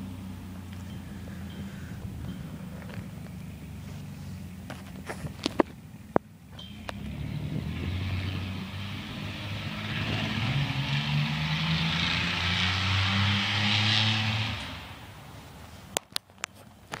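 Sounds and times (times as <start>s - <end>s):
raspy engine exhaust: 0.0s - 17.0s.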